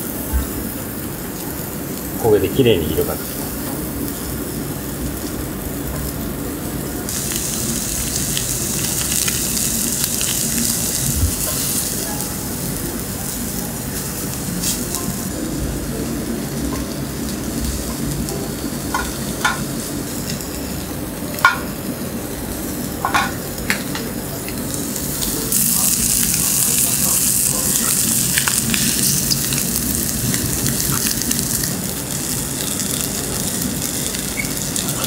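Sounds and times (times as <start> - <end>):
skewers sizzling on charcoal grill: 0.0 - 35.0.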